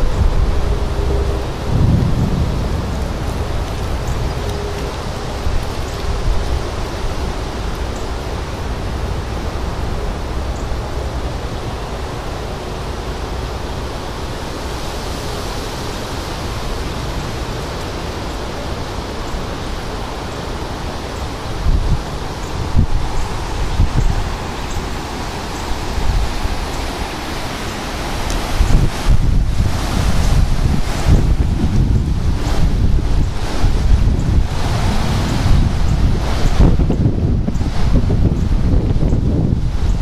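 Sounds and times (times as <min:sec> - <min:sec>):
strong wind buffeting microphone: 0:00.0 - 0:40.0.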